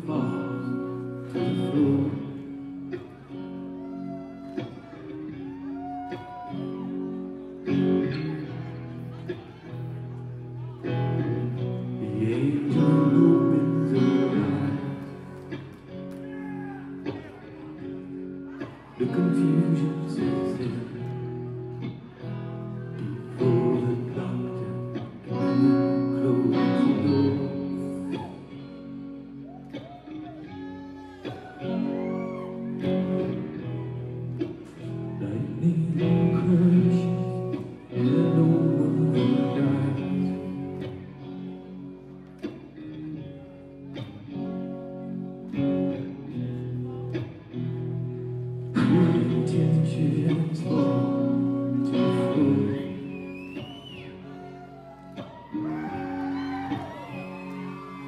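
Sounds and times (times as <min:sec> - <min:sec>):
guitars: 0:00.0 - 0:58.0
lead singer: 0:00.0 - 0:58.0.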